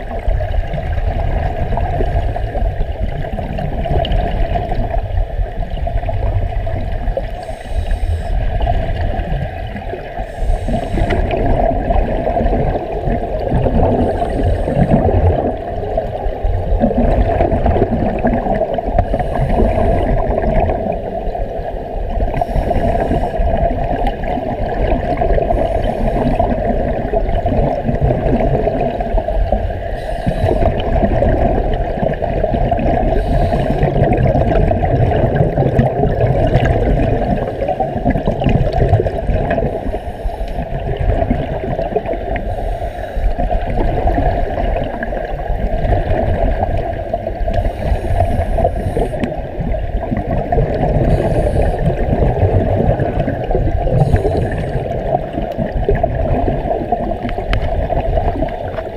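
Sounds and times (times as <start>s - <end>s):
muffled underwater rushing water: 0.0s - 58.9s
scuba bubbles hissing: 0.1s - 58.9s.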